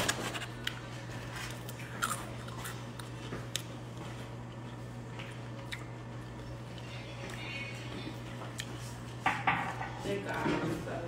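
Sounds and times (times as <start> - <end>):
person eating crunchy food: 0.0 - 9.1
steady low hum: 0.0 - 11.0.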